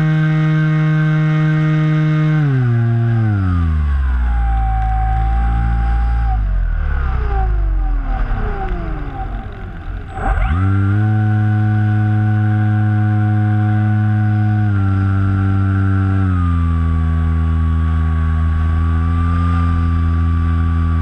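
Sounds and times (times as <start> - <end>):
electric motor and propeller whine: 0.0 - 21.0.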